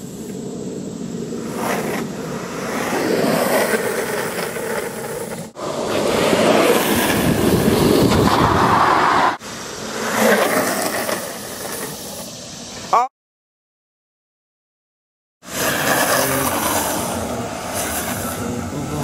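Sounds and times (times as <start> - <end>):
skateboard wheels rolling on asphalt: 0.0 - 12.9, 15.4 - 19.0.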